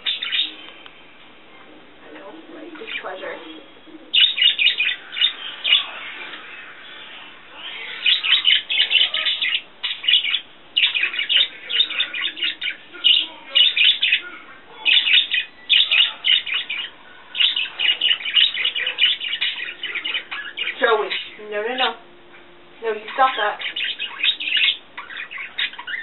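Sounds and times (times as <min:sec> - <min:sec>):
budgerigar warbling: 0:00.0 - 0:00.6, 0:02.8 - 0:06.7, 0:07.5 - 0:22.0, 0:22.9 - 0:26.0.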